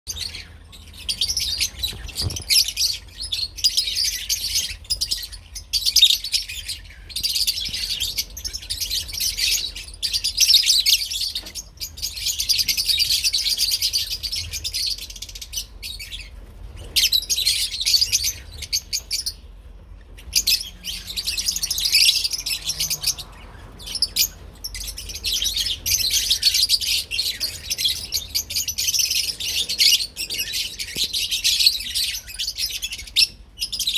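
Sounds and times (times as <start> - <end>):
lovebirds chattering: 0.1 - 19.5, 20.1 - 33.9.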